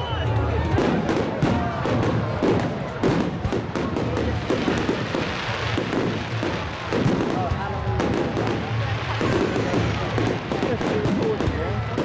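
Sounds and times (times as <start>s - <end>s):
fireworks bangs and thuds: 0.0s - 12.0s
music playing: 0.0s - 12.0s.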